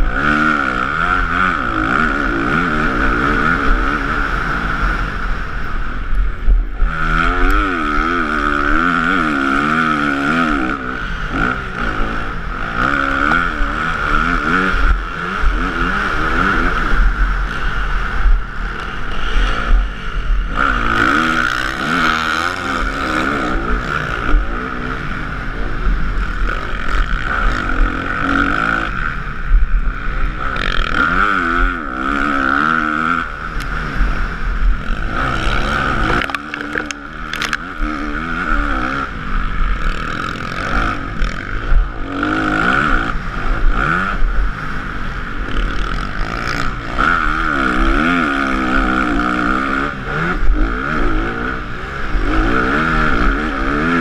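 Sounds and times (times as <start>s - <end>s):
motocross bike engine revving: 0.0s - 54.0s
wind rushing over microphone: 0.0s - 54.0s.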